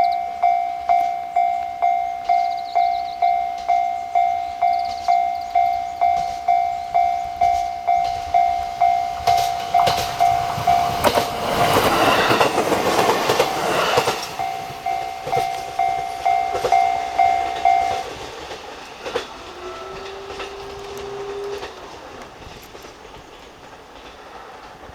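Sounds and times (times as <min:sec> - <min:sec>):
level-crossing warning bell ringing: 0:00.0 - 0:23.1
train wheel clatter: 0:00.9 - 0:24.9.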